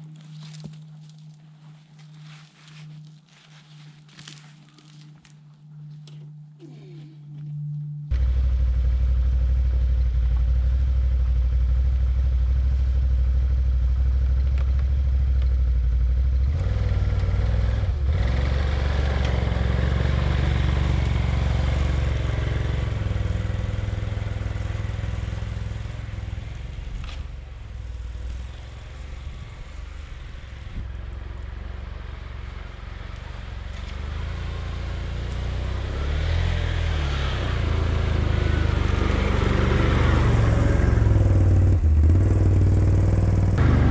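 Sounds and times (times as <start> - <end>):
quad engine running: 8.1 - 43.9.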